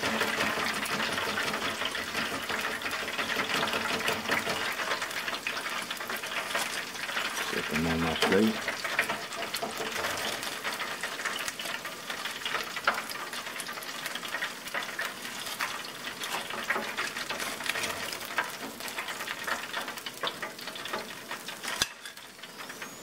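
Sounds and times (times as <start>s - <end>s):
hot oil sizzling and crackling: 0.0s - 23.0s.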